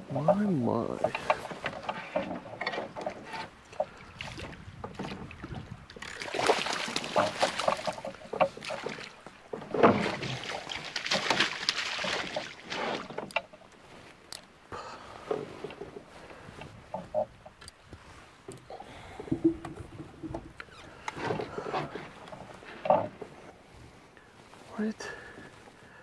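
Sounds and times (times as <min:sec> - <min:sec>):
knocks and clicks in a boat: 0:00.0 - 0:26.0
water splashing around a canoe: 0:00.0 - 0:26.0.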